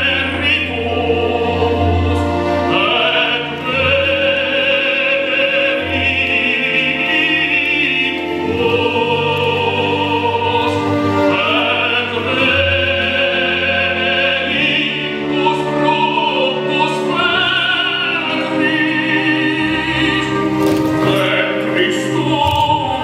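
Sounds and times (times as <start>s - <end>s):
instrumental accompaniment: 0.0s - 23.0s
operatic singing: 0.0s - 23.0s.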